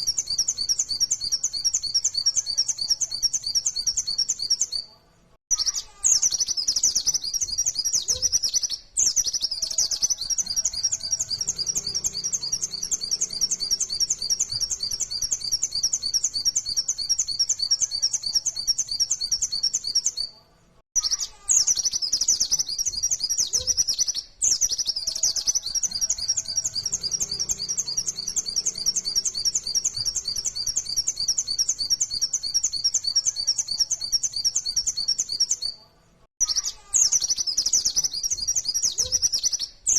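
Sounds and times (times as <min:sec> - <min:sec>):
bird singing rapid high notes: 0:00.0 - 0:04.8, 0:05.5 - 0:20.3, 0:21.0 - 0:35.8, 0:36.4 - 0:39.9.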